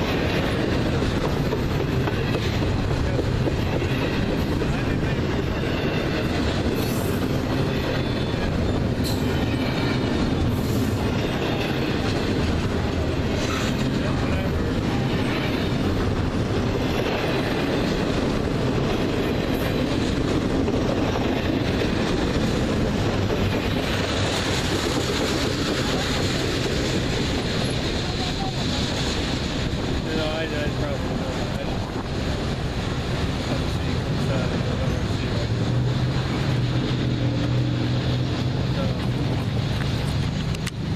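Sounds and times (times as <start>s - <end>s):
freight train rolling past: 0.0s - 40.9s
wheels clicking over rail joints: 0.0s - 40.9s.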